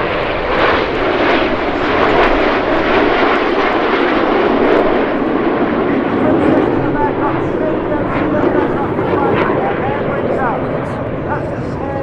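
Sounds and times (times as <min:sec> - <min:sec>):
jet engines roaring past: 0:00.0 - 0:12.0.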